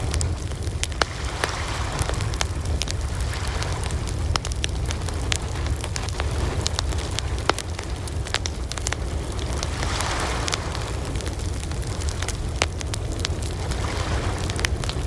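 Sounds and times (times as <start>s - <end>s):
fire hissing: 0.0s - 15.0s
wood fire crackling and popping: 0.0s - 15.0s.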